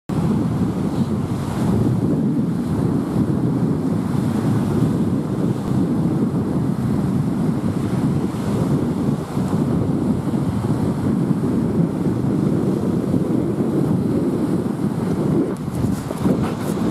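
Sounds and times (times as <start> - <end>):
sea waves breaking on beach: 0.1 - 16.9
wind rumbling on microphone: 0.1 - 16.9.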